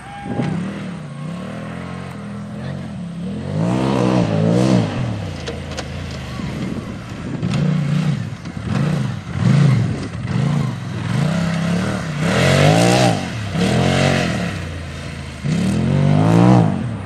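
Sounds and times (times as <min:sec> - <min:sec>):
utility vehicle engine revving: 0:00.0 - 0:17.0.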